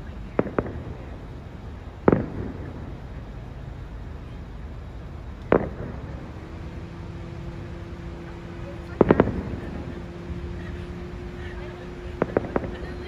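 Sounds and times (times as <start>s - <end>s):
fireworks bursting: 0.0s - 13.0s
low background rumble: 0.0s - 13.0s.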